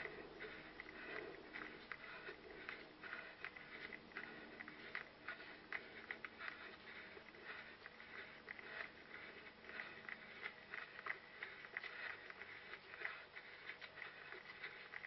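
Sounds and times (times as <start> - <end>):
running footsteps crunching: 0.0 - 15.0.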